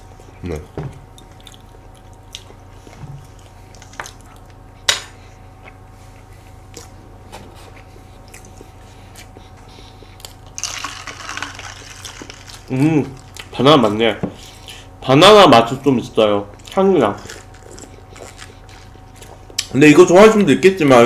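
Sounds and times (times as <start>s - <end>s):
soft chewing: 0.0s - 14.9s, 16.4s - 19.8s
steady low hum: 0.0s - 21.0s.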